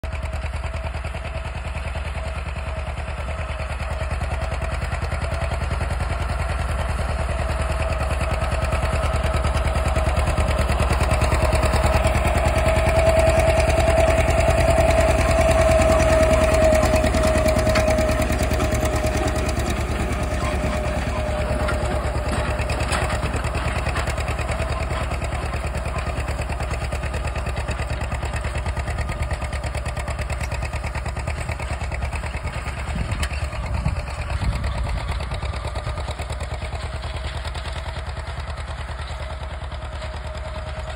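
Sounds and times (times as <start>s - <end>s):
tractor engine exhaust beating: 0.0s - 40.9s.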